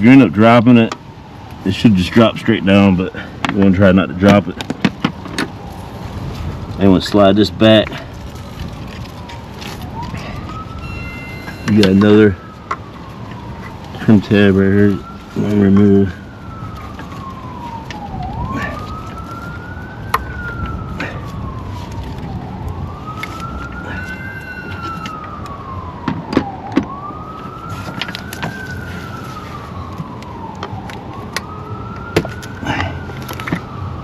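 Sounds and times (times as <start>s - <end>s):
emergency siren wailing: 0.0s - 34.0s.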